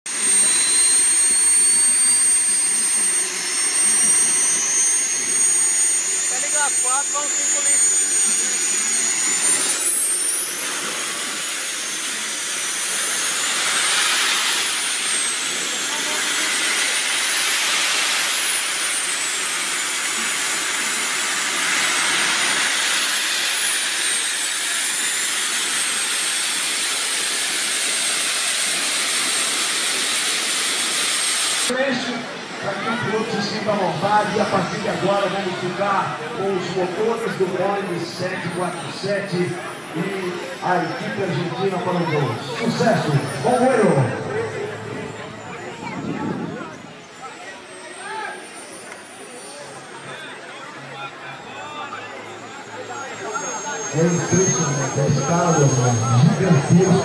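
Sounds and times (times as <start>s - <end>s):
model jet turbines whining: 0.1s - 57.0s.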